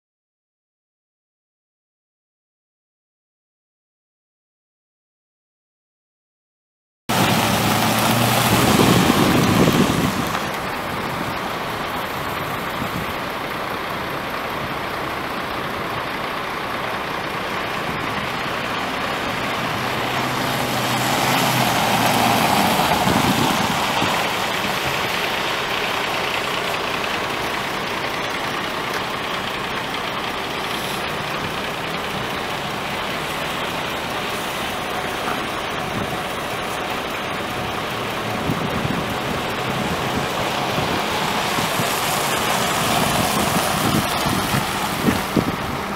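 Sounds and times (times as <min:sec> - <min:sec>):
pickup engine idling: 0:07.1 - 0:45.9.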